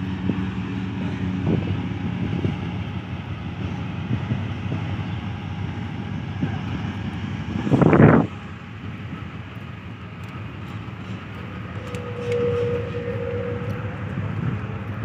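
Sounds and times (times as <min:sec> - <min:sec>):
diesel locomotive engine drone: 0:00.0 - 0:15.0
train rolling rumble: 0:00.0 - 0:15.0.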